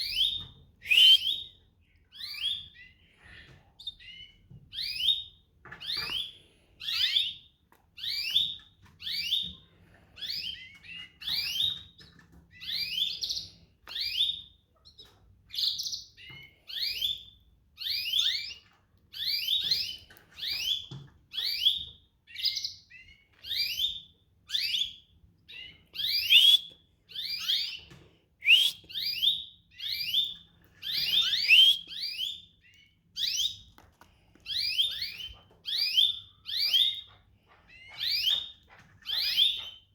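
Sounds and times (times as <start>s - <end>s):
canary chirping: 0.0s - 33.8s, 34.4s - 39.9s.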